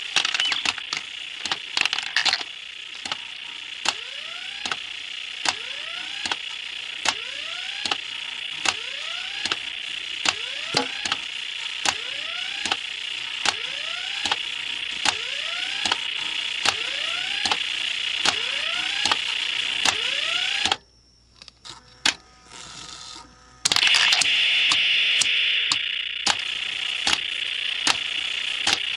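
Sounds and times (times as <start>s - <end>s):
pachinko machine clicks: 0.0s - 20.8s, 23.7s - 28.9s.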